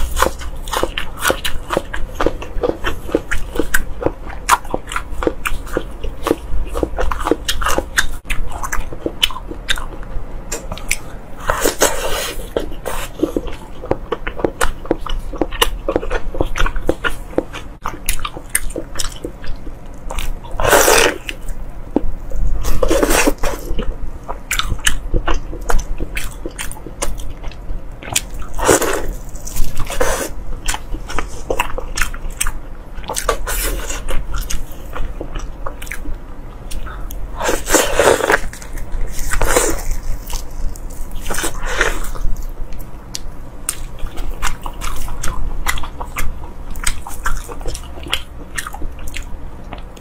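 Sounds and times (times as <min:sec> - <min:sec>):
wet chewing and biting: 0:00.0 - 0:50.0.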